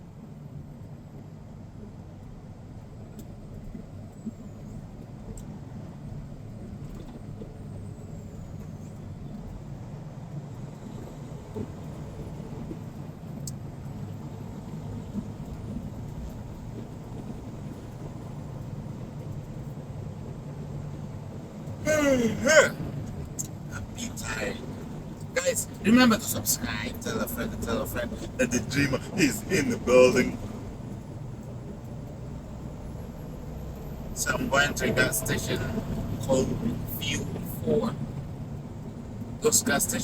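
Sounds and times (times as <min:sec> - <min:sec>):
truck engine low rumble: 0:00.0 - 0:40.0.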